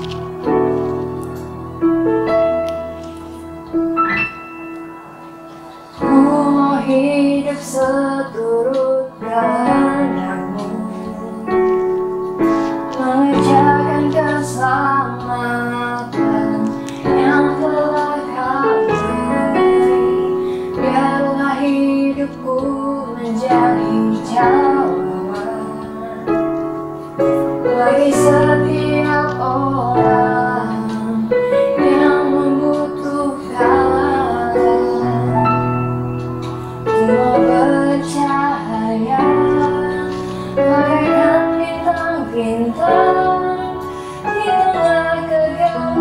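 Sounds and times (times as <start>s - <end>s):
piano accompaniment: 0.0s - 46.0s
woman singing worship song: 0.0s - 46.0s.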